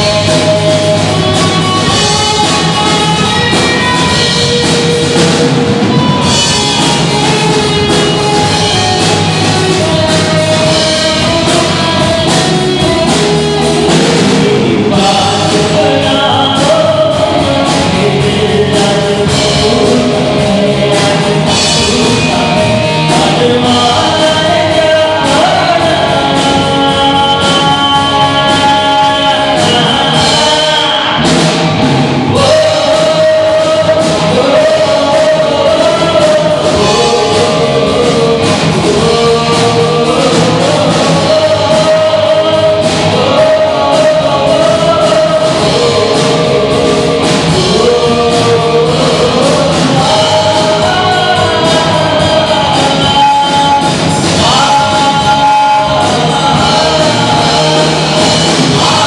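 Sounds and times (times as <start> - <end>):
bass guitar: 0.0 - 59.0
drum kit with cymbals: 0.0 - 59.0
electric guitar: 0.0 - 59.0
man singing: 0.0 - 59.0.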